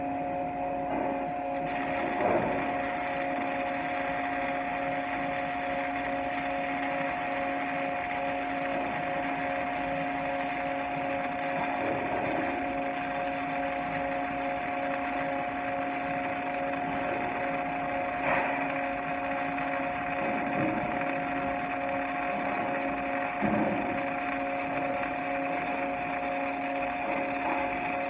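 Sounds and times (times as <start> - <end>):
welding equipment humming: 1.0 - 28.0.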